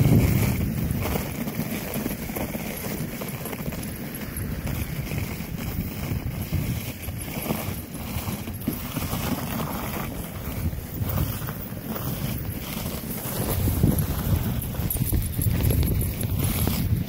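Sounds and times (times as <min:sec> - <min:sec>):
sled scraping on snow: 0:00.0 - 0:17.0.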